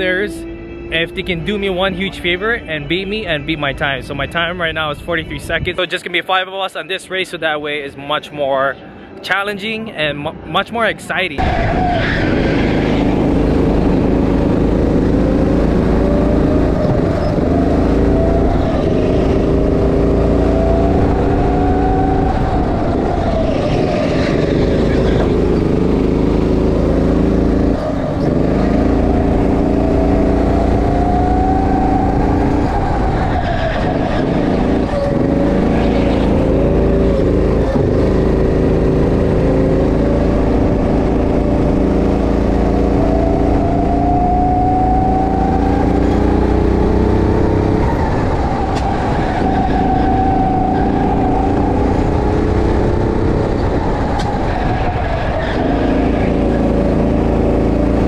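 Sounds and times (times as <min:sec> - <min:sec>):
go-kart engine revving: 0:00.0 - 0:05.5, 0:11.4 - 0:58.0.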